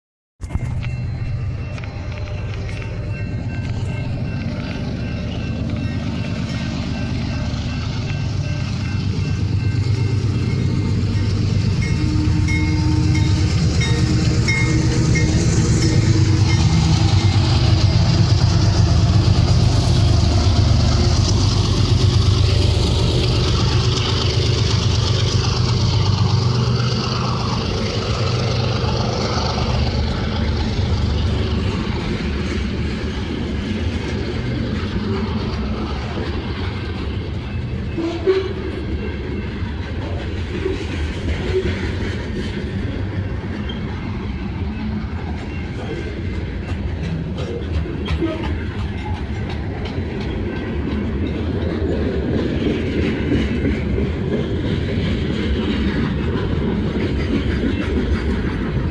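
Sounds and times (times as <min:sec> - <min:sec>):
diesel locomotive engine: 0:00.4 - 0:58.9
railcars rumbling past: 0:00.4 - 0:58.9.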